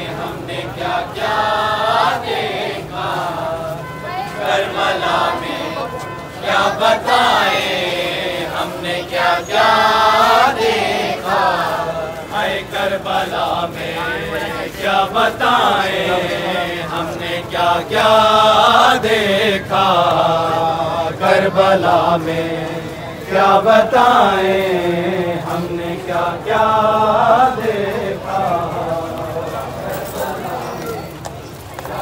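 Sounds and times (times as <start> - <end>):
men chanting in chorus: 0.0 - 31.1.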